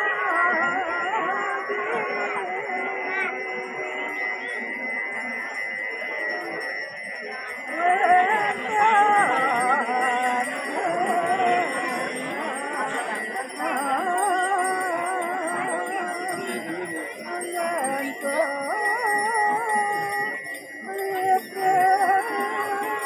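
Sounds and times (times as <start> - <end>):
bells jingling: 0.0 - 23.0
wavering melody: 0.0 - 23.0.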